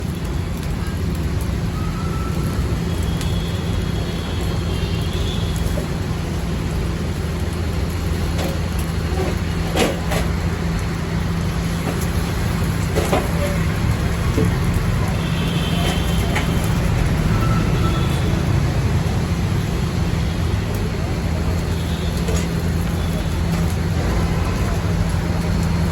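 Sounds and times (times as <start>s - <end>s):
traffic engine rumble: 0.0s - 25.9s.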